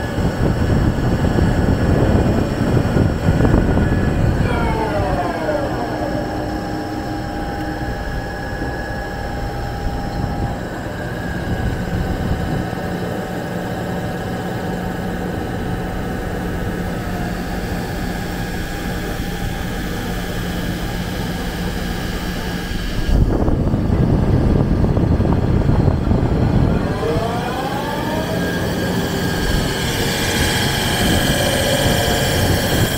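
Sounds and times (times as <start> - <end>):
lathe whirring: 0.0 - 24.1, 26.4 - 32.9.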